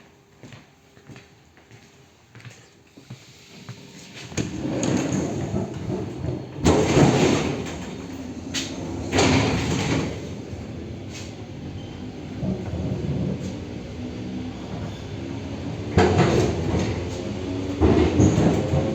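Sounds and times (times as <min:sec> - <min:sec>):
train carriage rumble: 0:00.0 - 0:18.9.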